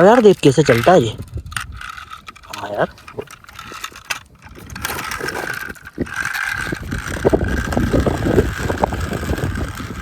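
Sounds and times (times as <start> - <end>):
clicks and clatter: 0.0 - 10.0
toy motor whining: 0.0 - 10.0.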